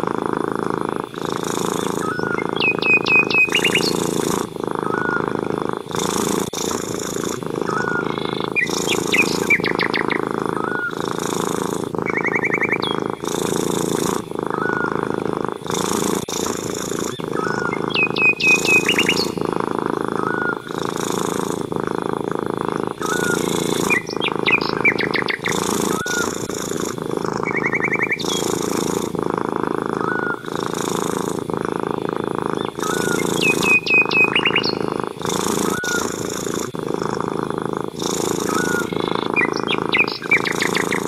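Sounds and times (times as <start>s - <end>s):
birds chirping: 0.0s - 41.0s
cat purring: 0.0s - 41.0s.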